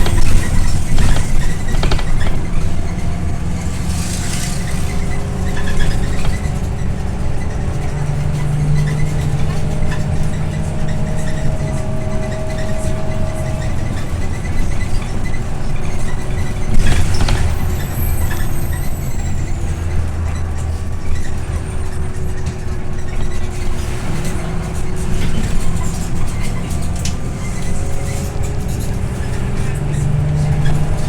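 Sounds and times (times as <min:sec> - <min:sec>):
bus engine drone: 0:00.0 - 0:31.0
road and cabin rattle: 0:00.0 - 0:31.0.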